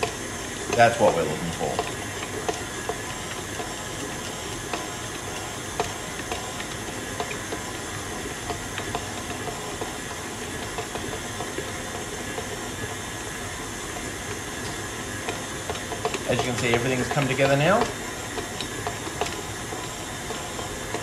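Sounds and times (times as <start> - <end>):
stand mixer motor running: 0.0 - 21.0.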